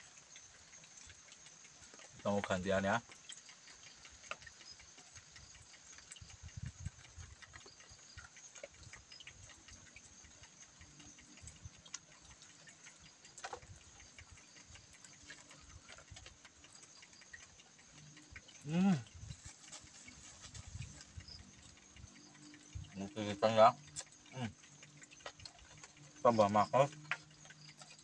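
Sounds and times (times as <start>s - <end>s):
faint eating clicks and knocks: 0.0s - 28.0s.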